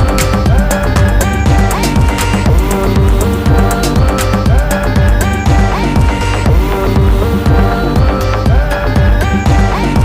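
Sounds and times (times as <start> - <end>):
gliding synth notes: 0.0 - 10.0
techno kick drum: 0.0 - 10.0
ticking hi-hats: 0.0 - 10.0.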